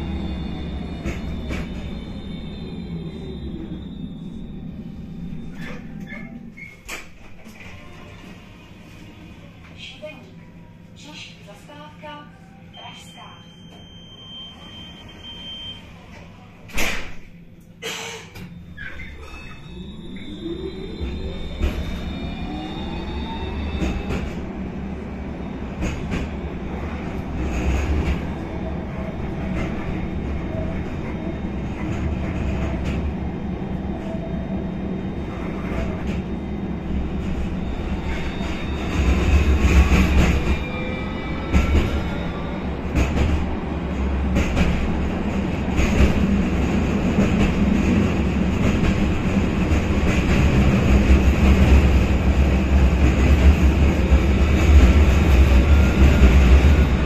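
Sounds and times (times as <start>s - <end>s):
tram wheels rumbling on rail: 0.0s - 12.1s, 16.1s - 57.0s.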